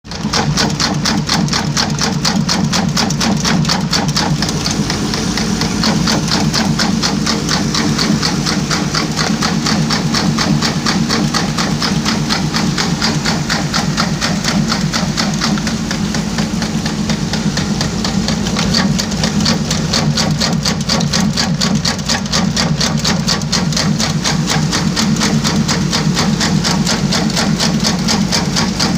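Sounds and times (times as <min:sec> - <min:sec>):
machine clattering over low hum: 0:00.1 - 0:28.9.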